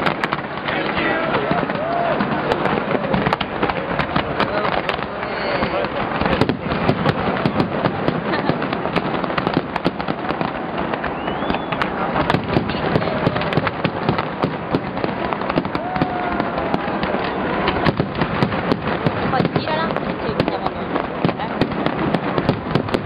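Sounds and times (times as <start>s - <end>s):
fireworks crackling: 0.0s - 23.0s
sharp firework cracks and pops: 0.0s - 23.0s.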